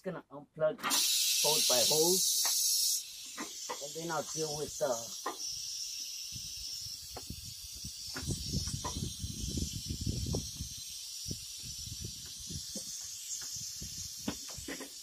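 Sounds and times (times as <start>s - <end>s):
compressed air hissing: 0.8s - 15.0s.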